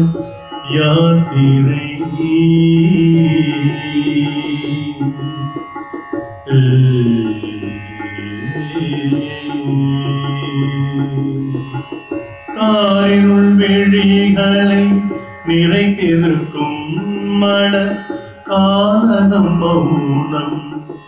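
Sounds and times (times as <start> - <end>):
man singing: 0.0 - 5.6, 6.4 - 11.9, 12.5 - 21.0
instrumental backing music: 0.0 - 21.0.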